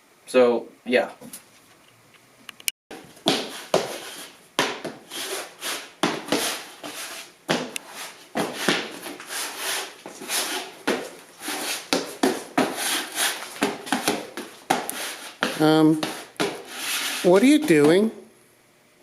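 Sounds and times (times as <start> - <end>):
shoe soles scuffing on floor: 2.9 - 18.2.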